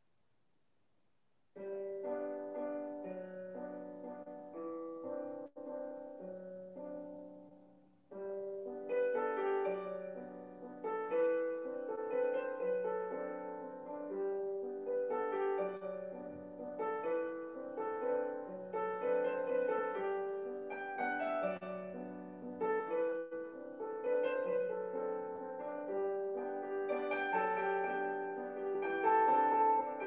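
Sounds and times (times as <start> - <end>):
piano music: 1.6 - 30.0.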